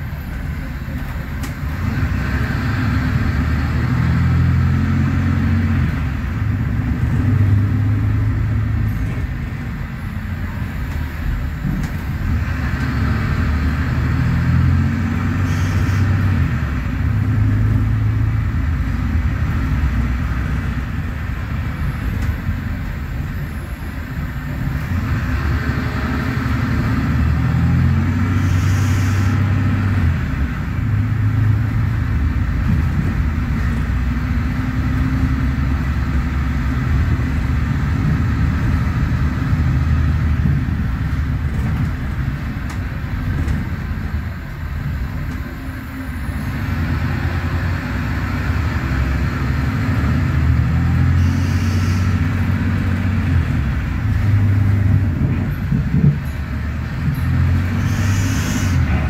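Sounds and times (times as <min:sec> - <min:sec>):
bus engine rumble from inside: 0:00.0 - 0:59.0.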